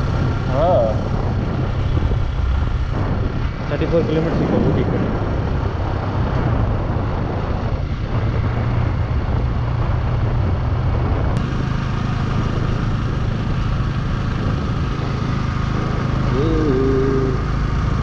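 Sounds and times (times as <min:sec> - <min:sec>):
motorcycle engine running: 0:00.0 - 0:18.0
wind and road rush: 0:00.0 - 0:18.0.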